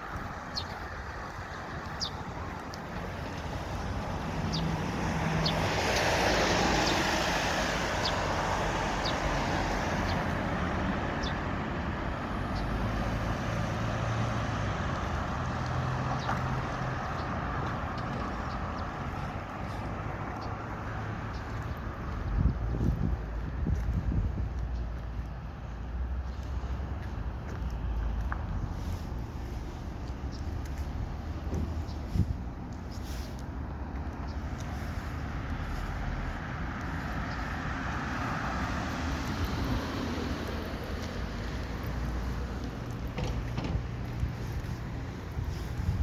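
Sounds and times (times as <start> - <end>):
road traffic noise: 0.0 - 46.0
vehicle passing: 0.1 - 24.4, 26.0 - 46.0.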